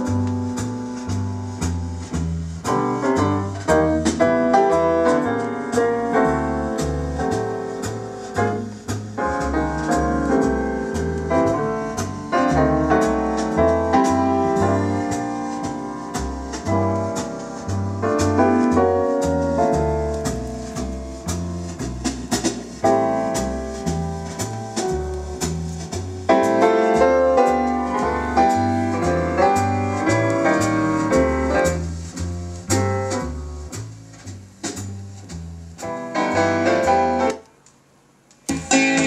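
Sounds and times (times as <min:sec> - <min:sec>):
piano music from a record: 0:00.0 - 0:39.0.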